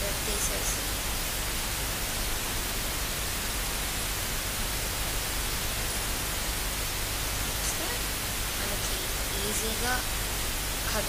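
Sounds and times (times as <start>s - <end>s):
recording noise hiss: 0.0s - 11.0s.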